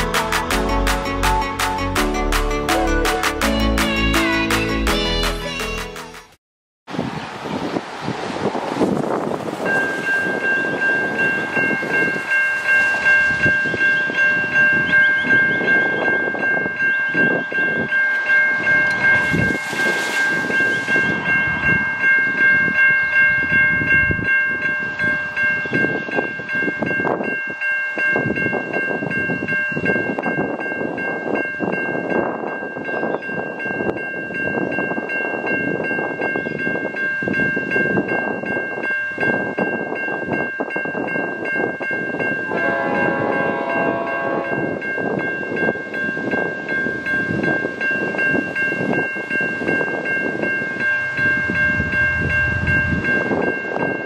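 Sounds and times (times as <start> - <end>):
level crossing bells ringing: 9.7 - 54.0.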